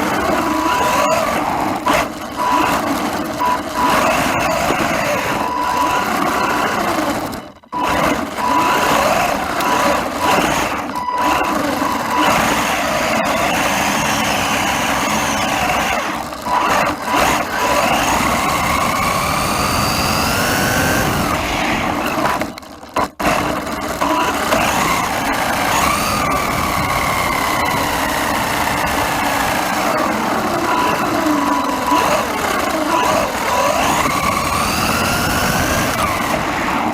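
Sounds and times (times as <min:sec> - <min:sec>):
toy car electric motor whining: 0:00.0 - 0:36.9.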